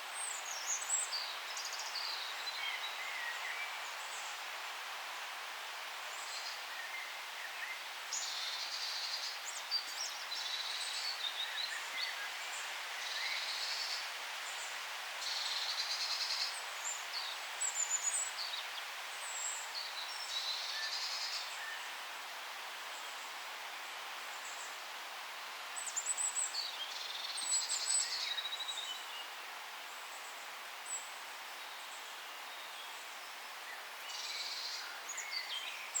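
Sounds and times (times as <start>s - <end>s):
steady background hiss: 0.0s - 36.0s.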